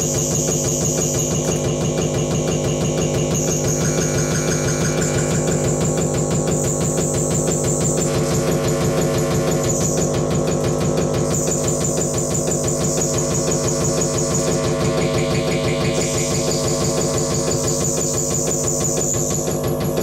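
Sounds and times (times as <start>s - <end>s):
buzzing electronic noise drone: 0.0s - 20.0s
high electronic whine: 0.0s - 20.0s.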